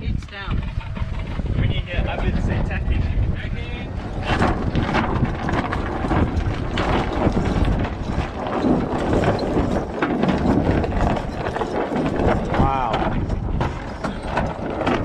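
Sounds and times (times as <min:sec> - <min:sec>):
sail flapping: 0:00.0 - 0:15.0
wind buffeting microphone: 0:00.0 - 0:15.0.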